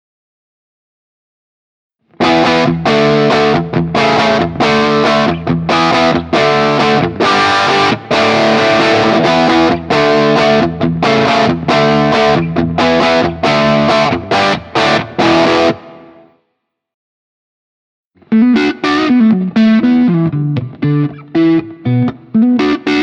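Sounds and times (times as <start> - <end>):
distorted electric guitar chords: 2.1 - 16.3, 18.2 - 23.0.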